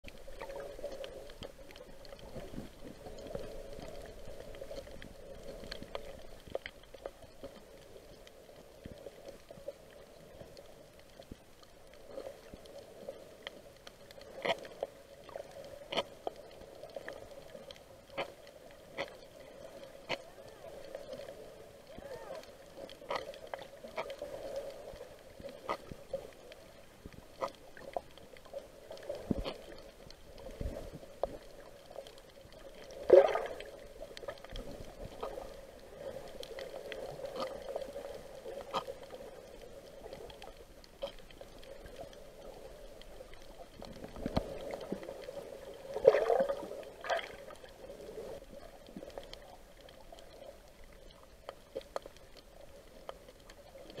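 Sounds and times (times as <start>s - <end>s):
muffled underwater wash and gurgle: 0.0s - 54.0s.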